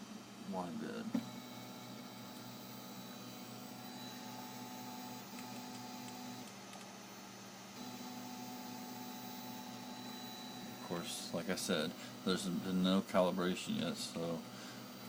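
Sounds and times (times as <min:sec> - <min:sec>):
stepper motor whine: 0:00.0 - 0:06.5, 0:07.1 - 0:15.0.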